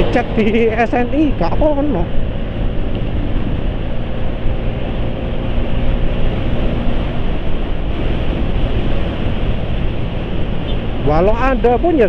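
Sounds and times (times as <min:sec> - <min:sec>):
loud rumbling: 0:00.0 - 0:12.0.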